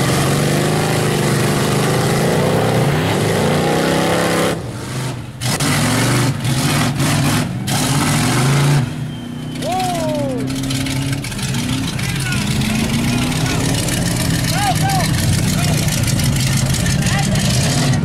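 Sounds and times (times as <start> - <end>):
truck engine revving: 0.0 - 18.0
truck splashing through water: 0.0 - 18.0.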